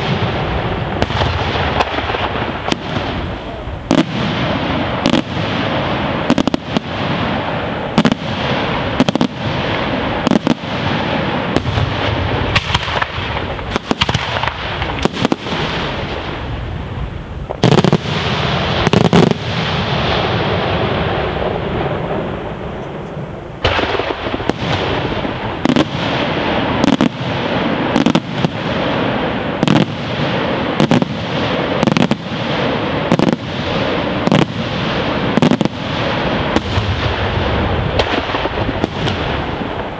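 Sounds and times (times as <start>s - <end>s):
fireworks bursts banging: 0.0s - 39.9s
fireworks crackling: 0.0s - 39.9s.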